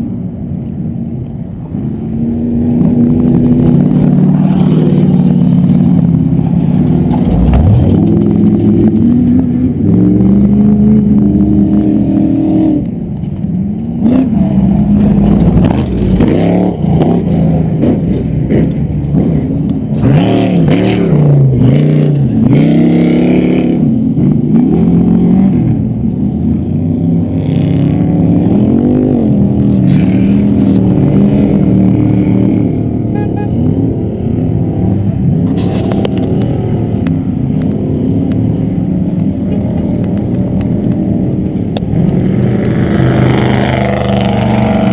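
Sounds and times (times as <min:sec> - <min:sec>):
truck engines revving: 0:00.0 - 0:44.9.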